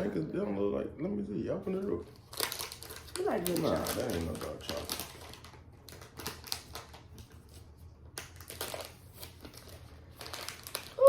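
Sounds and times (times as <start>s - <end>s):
wrapper crinkling and rustling: 1.7s - 11.0s.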